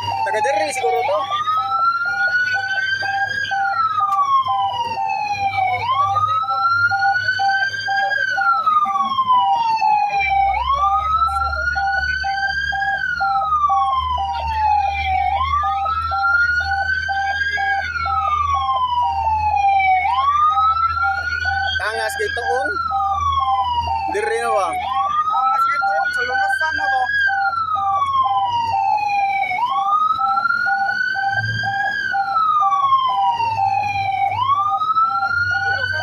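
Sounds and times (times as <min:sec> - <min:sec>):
fire truck siren wailing: 0:00.0 - 0:36.0.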